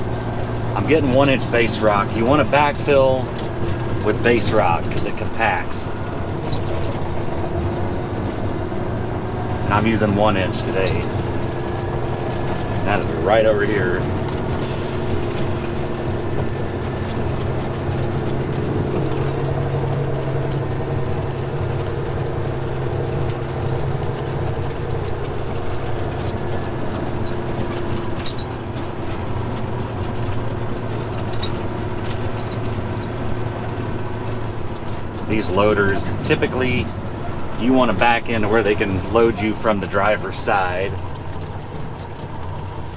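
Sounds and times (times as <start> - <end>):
truck diesel engine running: 0.0 - 42.9.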